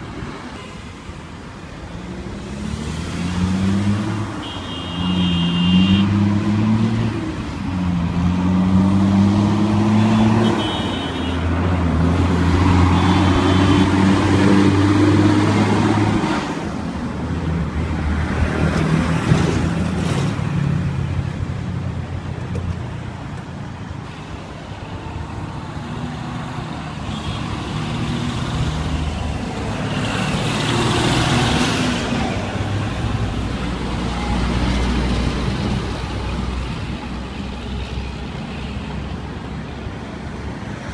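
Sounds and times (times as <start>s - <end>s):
trucks and cars accelerating past: 1.9s - 4.4s, 5.0s - 22.2s, 25.2s - 40.9s.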